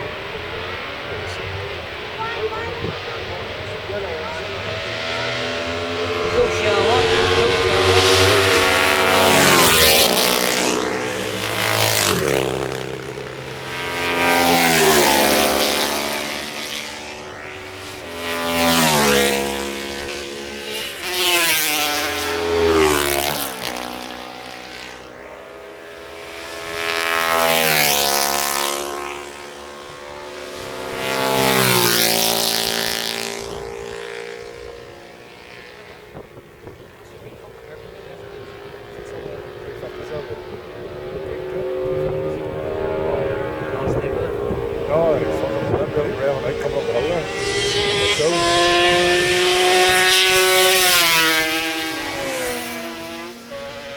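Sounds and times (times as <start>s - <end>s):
racing motorcycles passing: 0.0s - 53.9s.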